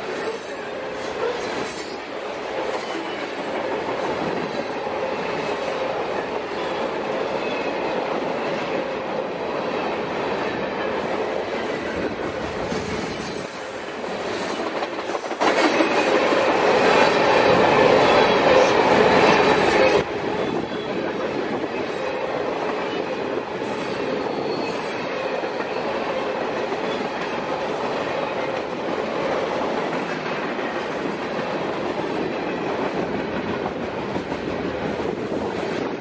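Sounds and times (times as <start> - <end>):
freight train cars rumbling: 0.0 - 36.0
steel wheels clattering on rail: 0.0 - 36.0.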